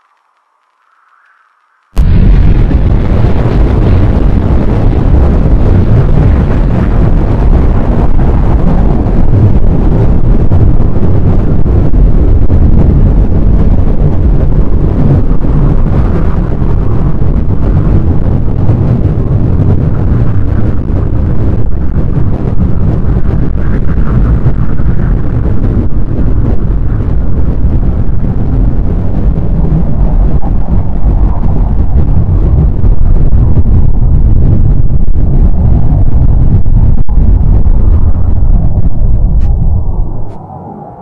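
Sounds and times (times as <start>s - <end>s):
deep rumbling blast: 2.0s - 41.0s.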